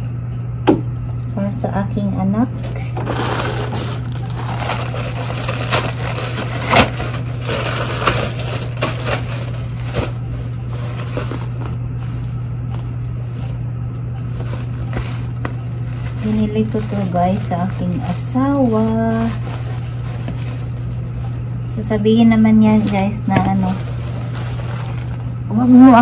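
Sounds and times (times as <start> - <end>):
steady low hum: 0.0 - 26.0
packaging rustling and crinkling: 2.6 - 21.6, 22.7 - 25.4.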